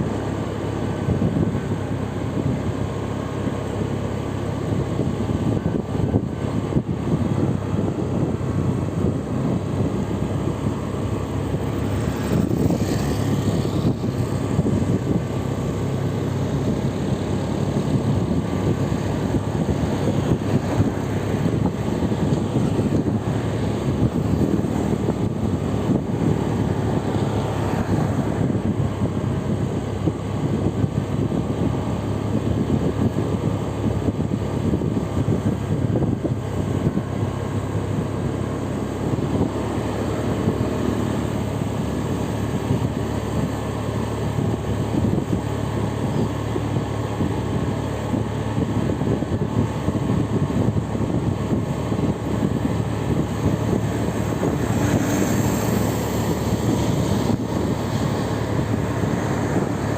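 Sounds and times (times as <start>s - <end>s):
road vehicle rumble: 0.0s - 59.9s.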